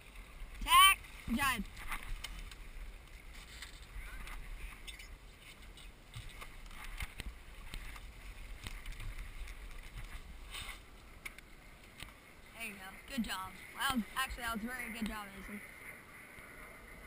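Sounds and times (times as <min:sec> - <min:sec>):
water along a boat hull: 0:00.0 - 0:17.0.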